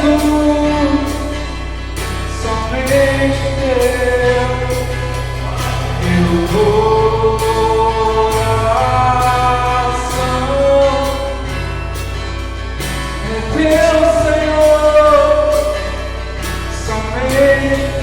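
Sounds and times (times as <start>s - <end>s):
person singing: 0.0s - 11.7s, 12.9s - 18.0s
acoustic guitar: 0.0s - 18.0s.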